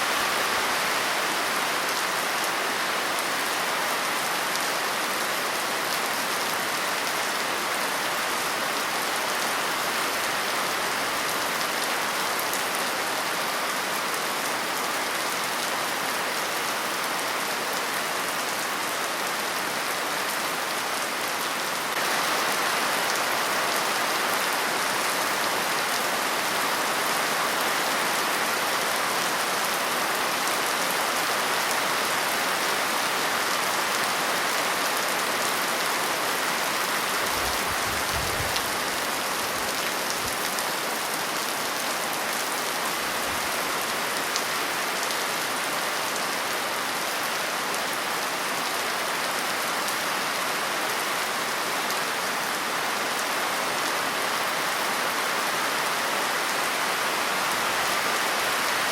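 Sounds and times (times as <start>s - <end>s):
steady rain hissing: 0.0s - 58.9s.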